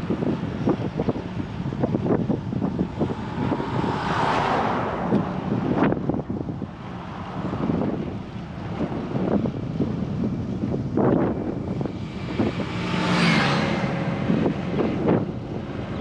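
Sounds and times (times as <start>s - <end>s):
motor vehicle passing: 0.0s - 16.0s
wind rushing on microphone: 0.0s - 16.0s.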